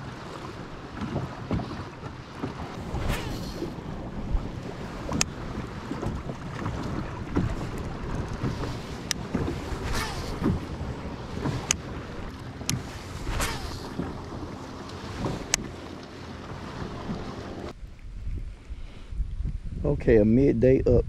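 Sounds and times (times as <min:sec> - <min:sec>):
waves lapping against boat hull: 0:00.0 - 0:19.1
wind buffeting microphone: 0:00.0 - 0:21.0.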